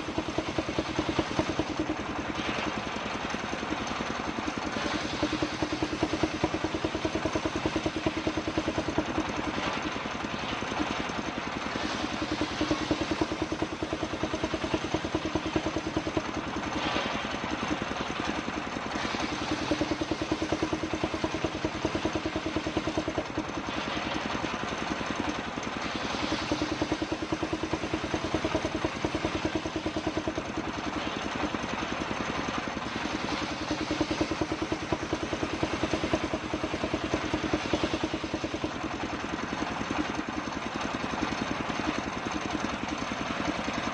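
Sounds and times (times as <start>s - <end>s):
circular saw running: 0.0s - 40.3s.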